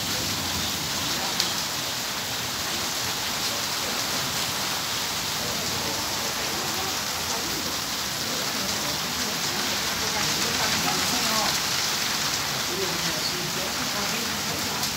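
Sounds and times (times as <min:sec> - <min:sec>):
heavy rain pouring: 0:00.0 - 0:14.9
water streaming off eaves: 0:00.0 - 0:14.9.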